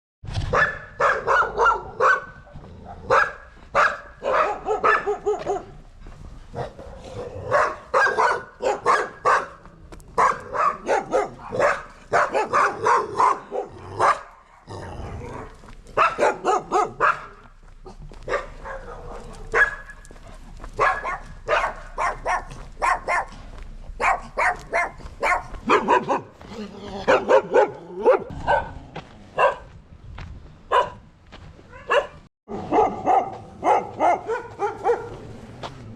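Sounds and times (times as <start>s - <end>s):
dogs barking: 0.5s - 5.8s, 6.5s - 26.4s, 27.0s - 28.8s, 29.4s - 29.7s, 30.7s - 31.0s, 31.7s - 35.7s.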